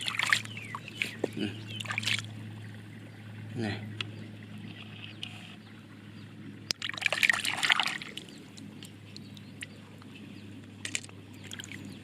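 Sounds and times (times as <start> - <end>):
low hum: 0.0 - 12.0
water splashing and trickling: 0.0 - 12.0.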